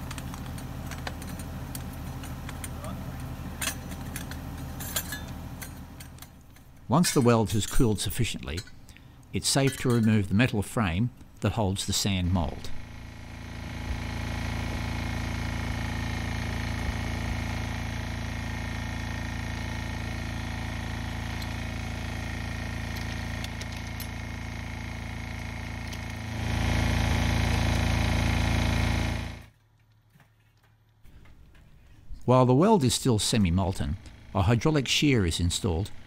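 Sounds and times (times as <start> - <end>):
engine running: 0.0 - 9.3, 12.1 - 29.5, 31.1 - 36.0.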